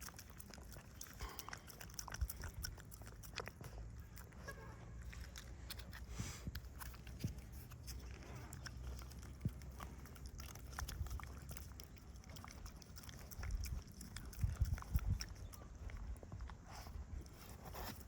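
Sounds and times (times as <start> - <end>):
dogs chewing food: 0.0 - 18.0.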